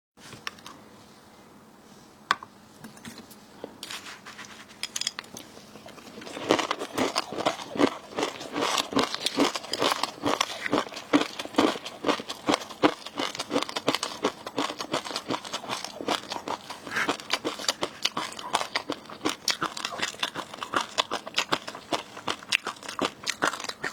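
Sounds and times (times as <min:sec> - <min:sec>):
food packaging crinkling and crunching: 0:03.8 - 0:23.9.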